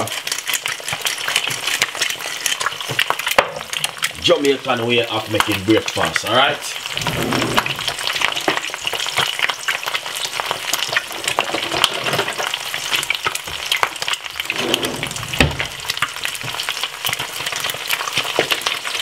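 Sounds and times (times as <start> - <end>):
eggs sizzling in oil: 0.0 - 19.0.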